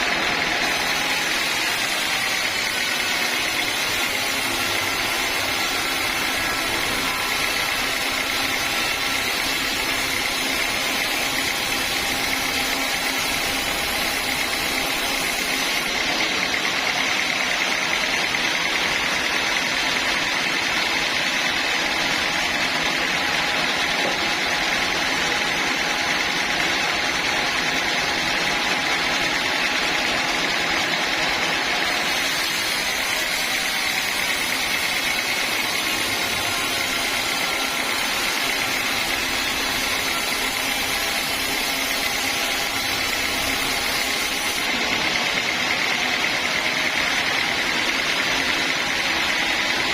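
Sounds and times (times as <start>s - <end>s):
sawmill saw running: 0.0s - 49.9s.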